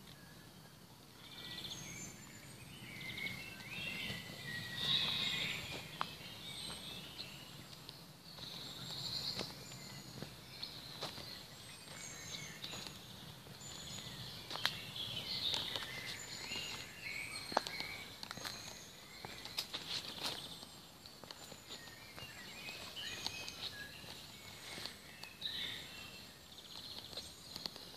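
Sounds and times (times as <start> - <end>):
small birds singing: 0.0 - 27.9
footsteps on garden path: 1.4 - 27.9.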